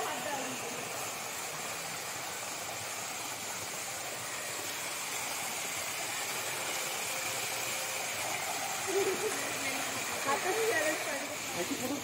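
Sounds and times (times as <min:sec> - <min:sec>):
waterfall splashing into pool: 0:00.0 - 0:12.0.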